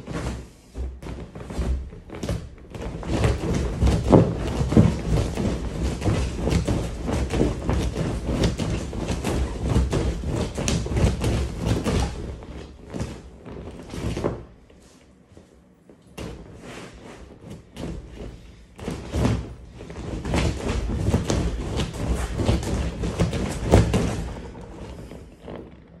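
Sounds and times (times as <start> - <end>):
thuds on air mattress: 0.0 - 14.6, 16.0 - 25.7.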